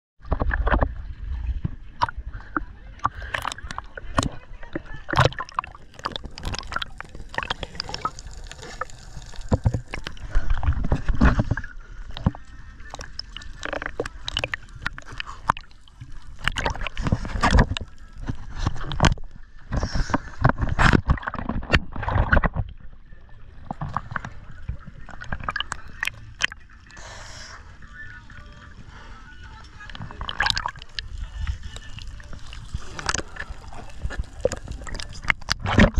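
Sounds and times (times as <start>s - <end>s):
seawater sloshing and gurgling: 0.2s - 35.9s
water splashes and bubbling: 0.2s - 35.9s.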